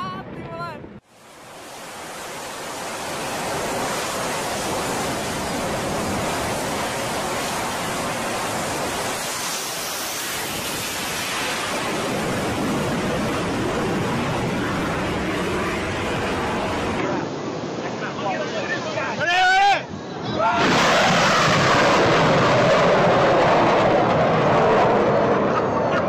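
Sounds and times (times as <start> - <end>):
jet engines at full power: 1.0 - 26.0.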